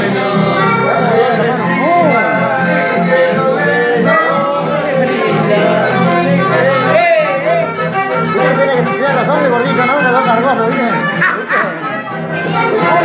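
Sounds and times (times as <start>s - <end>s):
button accordion: 0.0s - 13.0s
man singing: 0.0s - 13.0s
strummed acoustic guitars: 0.0s - 13.0s.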